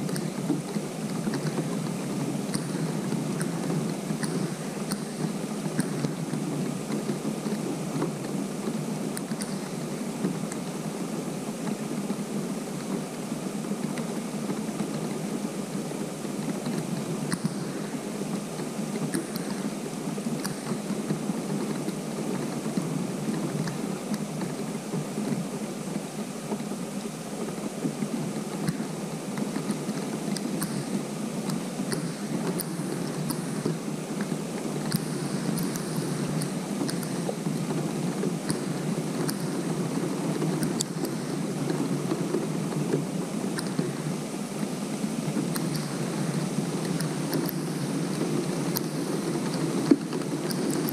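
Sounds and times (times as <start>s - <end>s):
rain on pond water: 0.0s - 50.9s.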